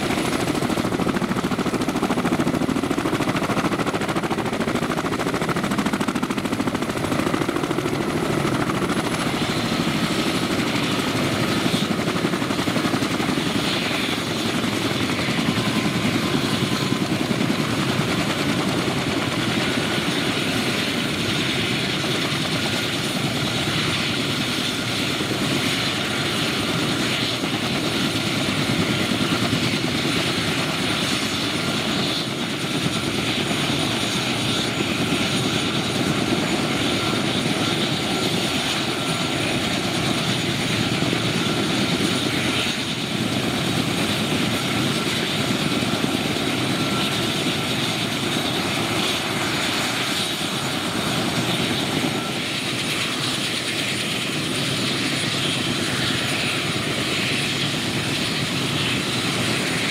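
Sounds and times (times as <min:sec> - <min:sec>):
helicopter rotors turning: 0:00.0 - 0:59.9.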